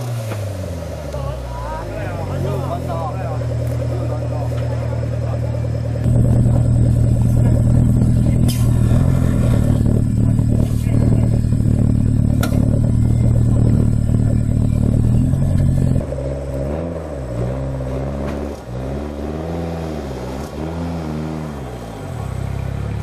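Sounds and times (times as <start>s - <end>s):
off-road truck engine revving: 0.0s - 23.0s.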